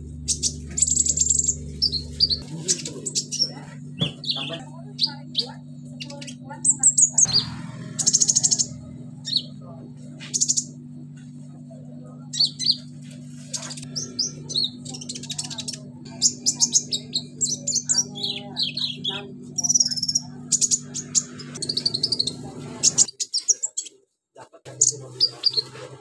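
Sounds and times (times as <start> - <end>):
steady low hum: 0.0 - 23.6
bird chirping and trilling: 0.2 - 9.6, 10.2 - 10.8, 12.1 - 24.0, 24.7 - 25.8.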